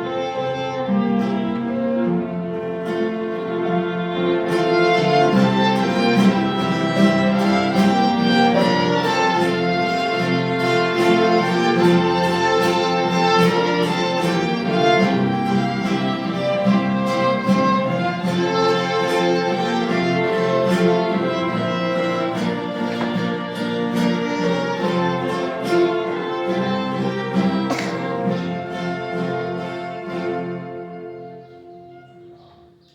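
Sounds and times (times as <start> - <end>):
string music with steady beat: 0.0 - 31.3.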